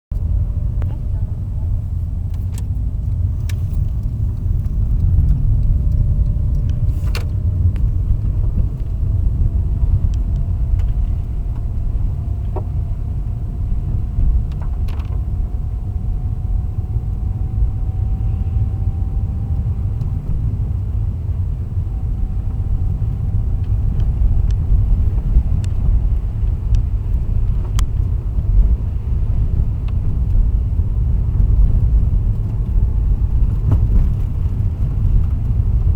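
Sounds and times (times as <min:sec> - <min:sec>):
road rumble: 0:00.1 - 0:35.9.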